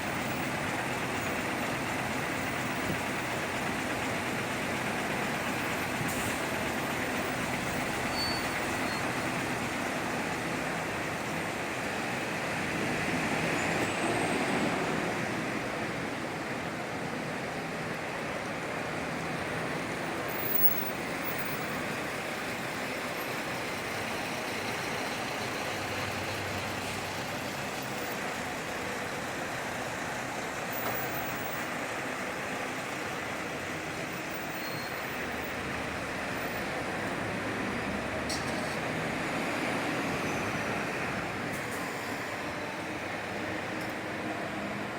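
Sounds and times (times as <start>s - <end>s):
buses and road traffic: 0.0s - 44.9s.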